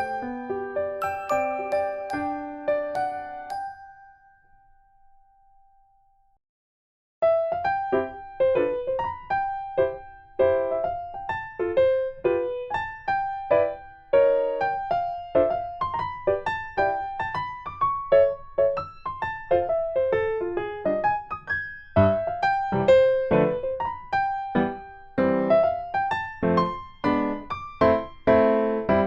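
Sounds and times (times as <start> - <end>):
light piano music: 0.0 - 5.9, 7.2 - 29.0.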